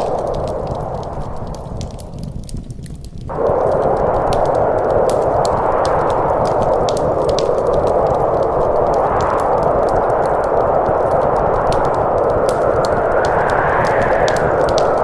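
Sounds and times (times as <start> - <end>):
howling wind: 0.0 - 15.0
wood fire crackling: 0.0 - 15.0.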